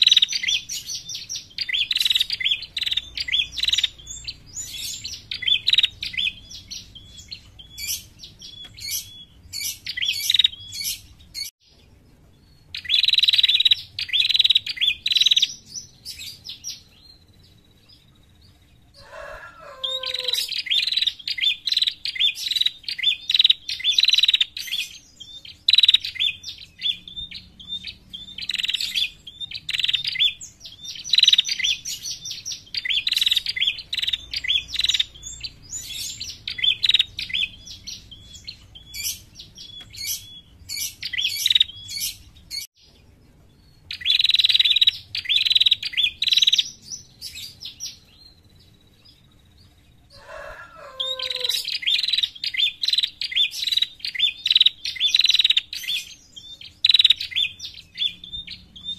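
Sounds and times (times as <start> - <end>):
bird sharp high chirps: 0.0 - 11.8, 12.4 - 18.1, 19.0 - 42.9, 43.6 - 49.2, 50.2 - 58.9.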